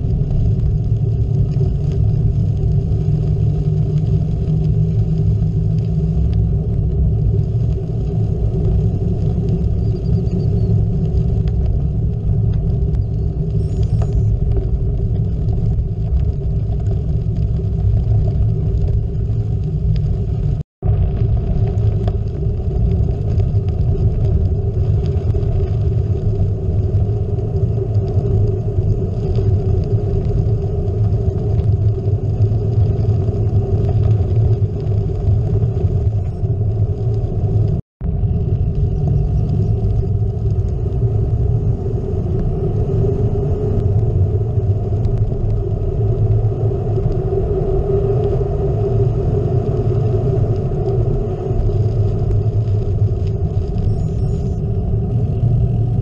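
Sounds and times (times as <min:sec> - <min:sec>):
bike rolling rumble: 0:00.0 - 0:56.0.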